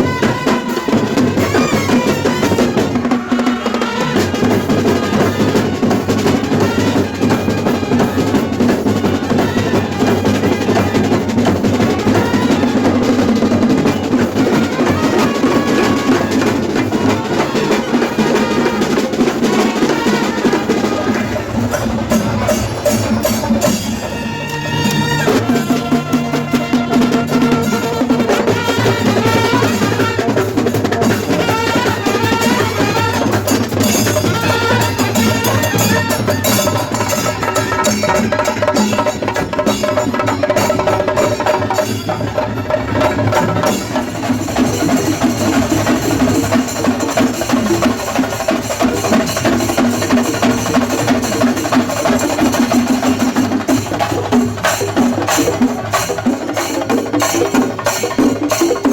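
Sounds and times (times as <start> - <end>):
rapid dense drumming: 0.0 - 58.9.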